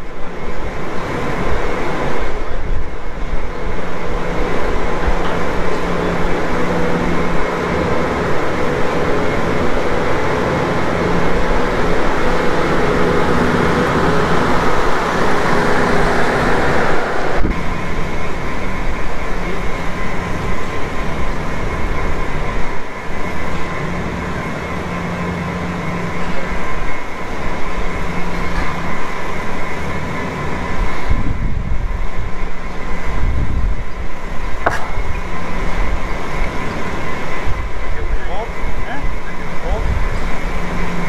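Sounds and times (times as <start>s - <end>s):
large fans droning: 0.0s - 41.0s.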